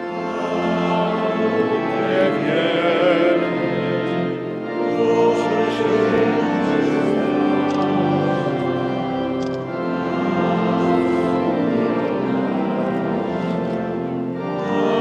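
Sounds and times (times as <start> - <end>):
pipe organ playing slow chords: 0.0 - 15.0.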